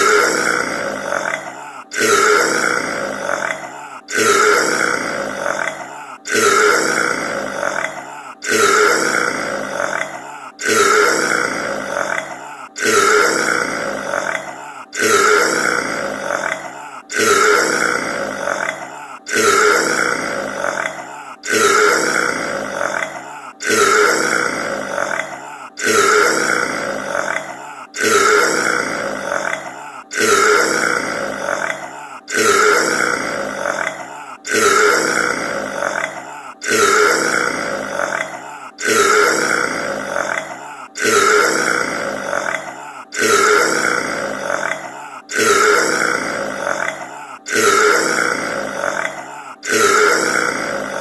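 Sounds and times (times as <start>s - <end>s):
loud long human burp: 0.0s - 51.0s.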